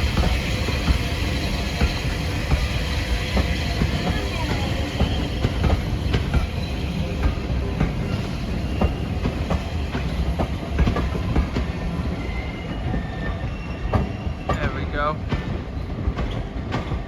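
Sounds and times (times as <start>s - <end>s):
train low rumble: 0.0s - 17.0s
train wheels clicking over rail joints: 0.0s - 17.0s.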